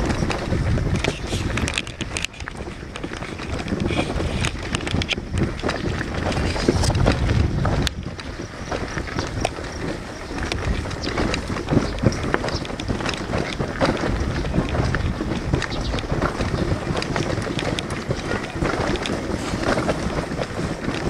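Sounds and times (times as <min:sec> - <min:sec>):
small clicks and crunches: 0:00.0 - 0:21.0
wind buffeting microphone: 0:00.0 - 0:21.0.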